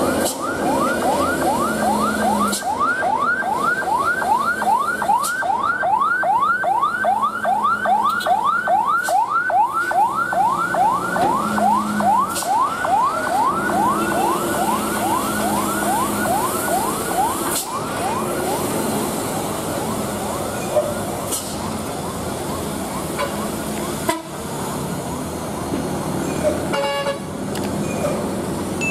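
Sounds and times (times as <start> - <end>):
ambulance siren wailing: 0.0 - 27.0.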